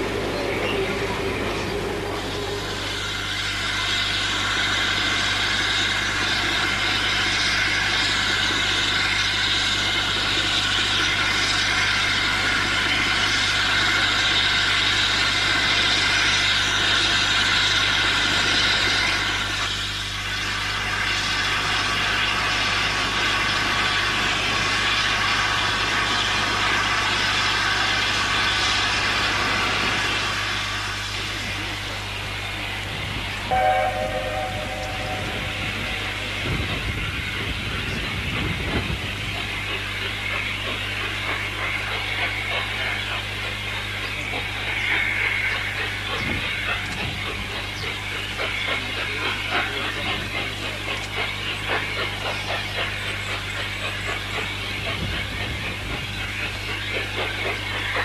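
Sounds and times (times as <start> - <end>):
steam hissing: 0.0 - 46.8.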